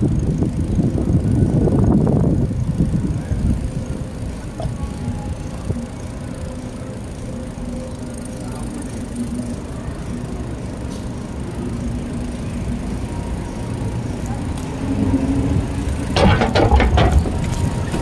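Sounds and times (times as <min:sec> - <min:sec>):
wind buffeting microphone: 0:00.0 - 0:07.4, 0:10.4 - 0:18.0
bicycle rolling over concrete: 0:00.0 - 0:18.0.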